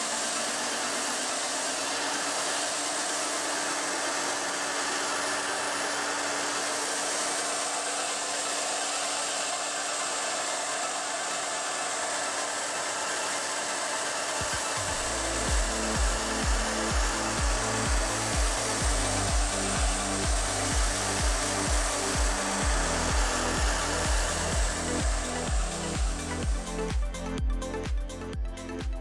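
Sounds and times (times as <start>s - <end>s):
heat gun blowing air: 0.0s - 27.4s.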